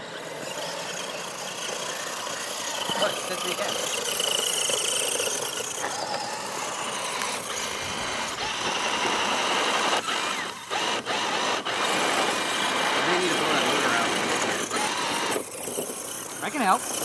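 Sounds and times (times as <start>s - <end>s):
rc truck electric motors whining: 0.0s - 17.0s.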